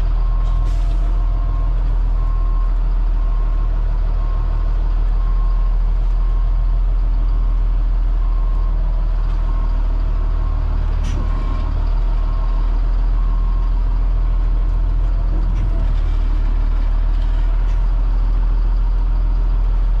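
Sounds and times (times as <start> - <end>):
bus diesel engine humming: 0.0 - 20.0.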